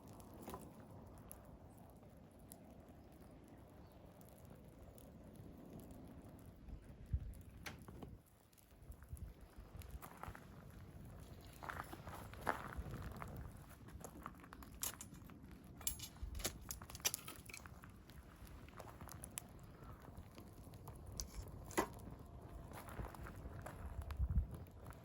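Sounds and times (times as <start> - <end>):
campfire crackling: 0.0 - 25.0
fire snaps and pops: 0.0 - 25.0.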